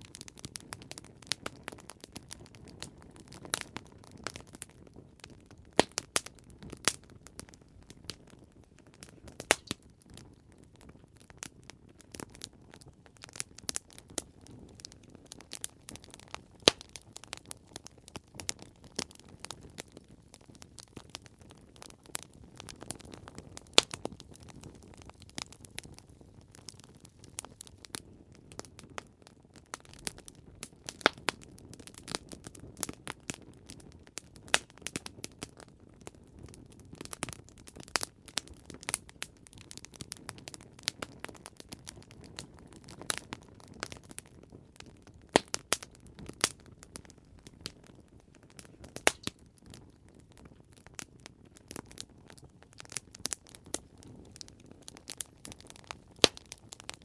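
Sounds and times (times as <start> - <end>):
campfire popping and snapping: 0.0 - 57.0
hiss and rumble of burning wood: 0.0 - 57.0.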